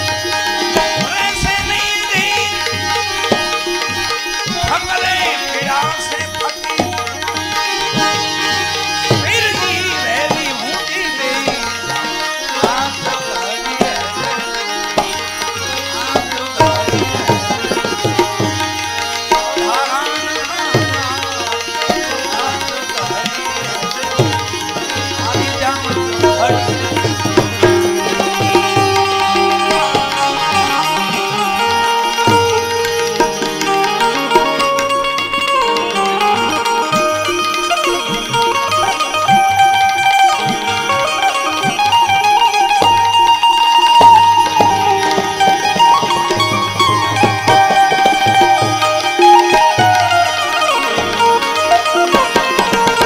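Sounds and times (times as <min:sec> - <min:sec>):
held melodic accompaniment: 0:00.0 - 0:53.0
tabla rhythm: 0:00.0 - 0:53.0.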